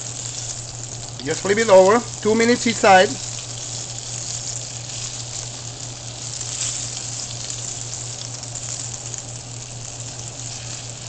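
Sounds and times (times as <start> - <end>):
fish fillets sizzling in a skillet: 0.0 - 11.0.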